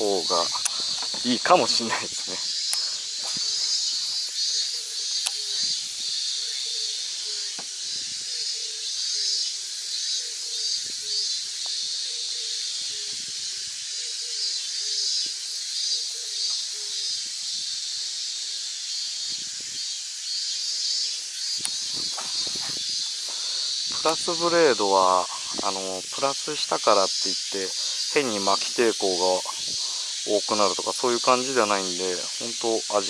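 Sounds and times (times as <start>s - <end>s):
insects shrilling: 0.0s - 33.0s.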